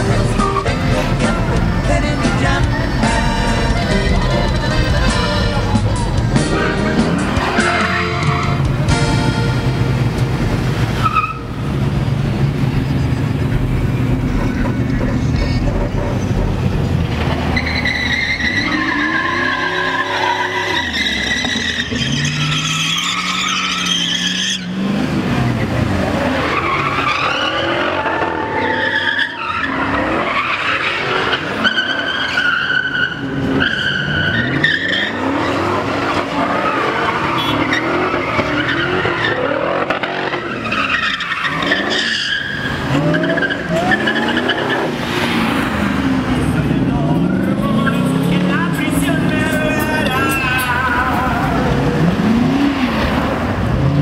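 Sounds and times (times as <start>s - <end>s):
tires squealing: 0.0s - 54.0s
truck engines revving: 0.0s - 54.0s.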